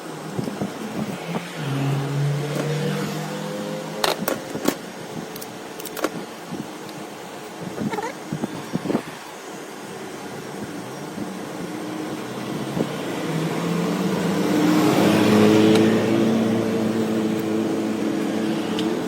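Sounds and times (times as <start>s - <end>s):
motor humming over hiss: 0.0s - 19.0s.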